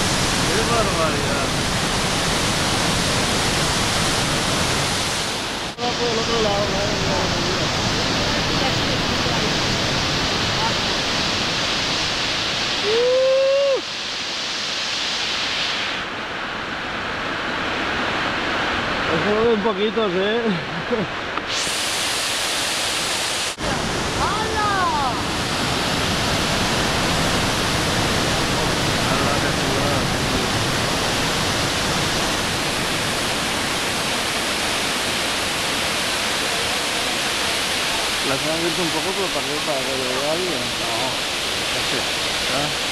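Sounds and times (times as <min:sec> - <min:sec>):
water rushing down a spillway: 0:00.0 - 0:42.9.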